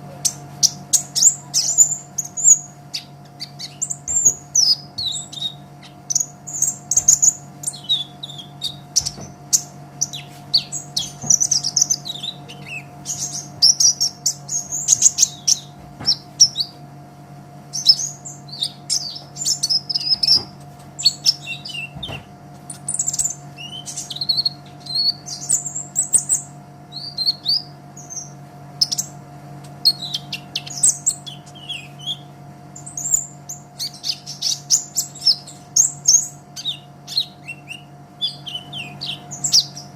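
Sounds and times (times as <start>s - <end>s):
bird chirping and trilling: 0.0s - 16.8s, 17.7s - 39.9s
steady low hum: 0.0s - 39.9s.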